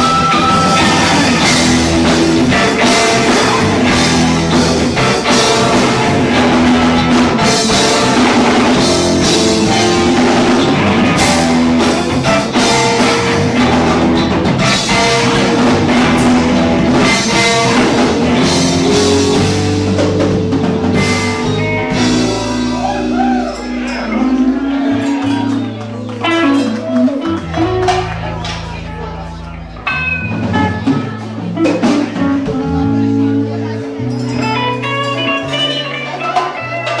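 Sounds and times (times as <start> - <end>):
bass guitar: 0.0 - 37.0
drum kit: 0.0 - 37.0
electric guitars: 0.0 - 37.0.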